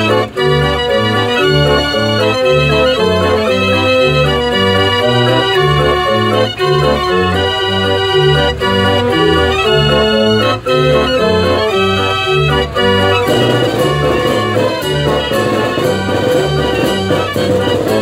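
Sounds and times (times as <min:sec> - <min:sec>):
street organ playing a tune: 0:00.0 - 0:18.0.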